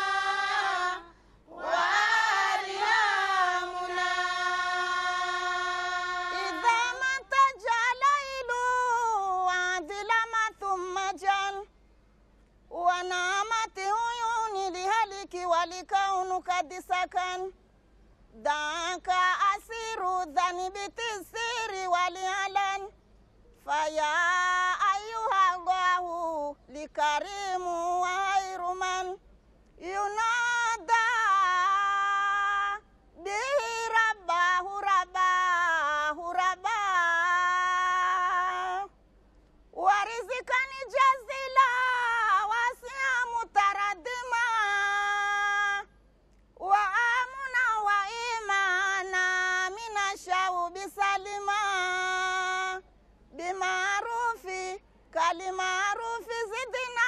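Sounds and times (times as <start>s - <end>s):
woman chanting unaccompanied: 0.0s - 11.7s, 12.7s - 17.6s, 18.3s - 23.0s, 23.6s - 29.2s, 29.8s - 39.0s, 39.8s - 45.9s, 46.6s - 57.0s.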